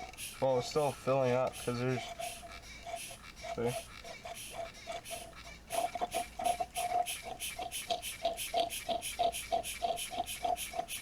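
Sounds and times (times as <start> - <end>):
hand pump squeaking and hissing: 0.0 - 11.0.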